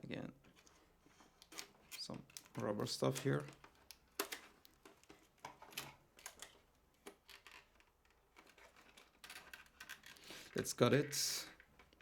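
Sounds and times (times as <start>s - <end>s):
hands handling toy packaging: 0.5s - 12.0s.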